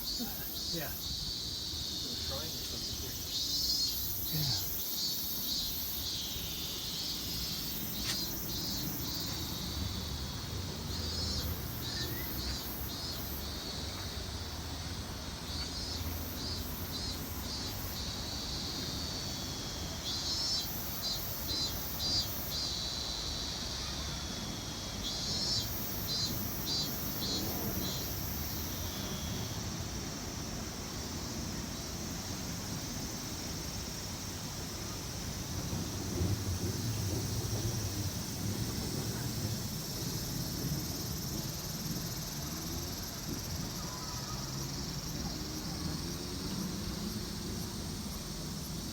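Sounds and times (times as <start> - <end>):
insects calling in rapid pulses: 0.0 - 48.9.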